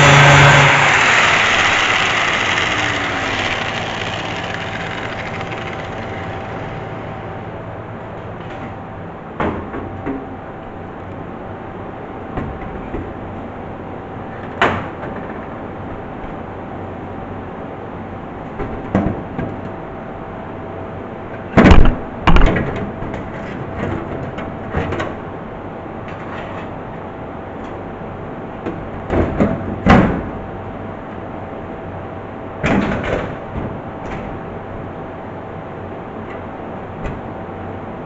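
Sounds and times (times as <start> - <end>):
steady background hum: 0.0 - 38.0.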